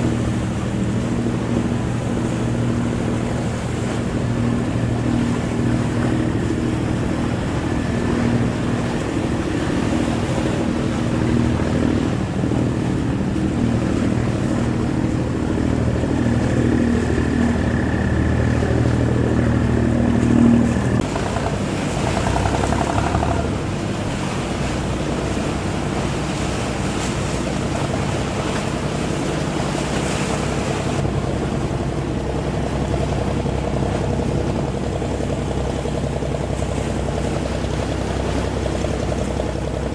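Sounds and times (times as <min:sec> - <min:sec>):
boat engine running: 0:00.0 - 0:39.9
water noise: 0:00.0 - 0:39.9
wind: 0:00.0 - 0:39.9.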